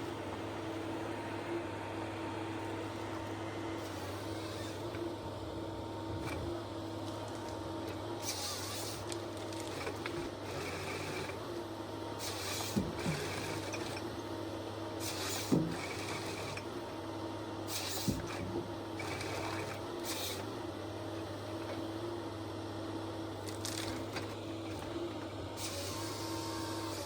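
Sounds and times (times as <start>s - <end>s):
heavy machine engine hum: 0.0s - 27.0s.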